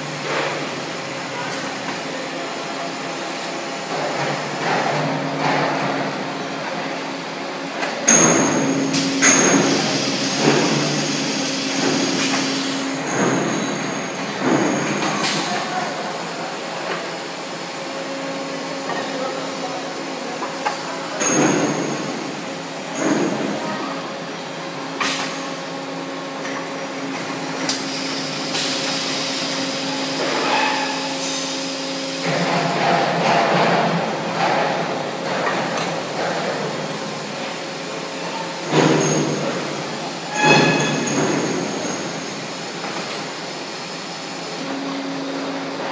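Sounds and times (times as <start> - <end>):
steady machinery hum: 0.0 - 45.9.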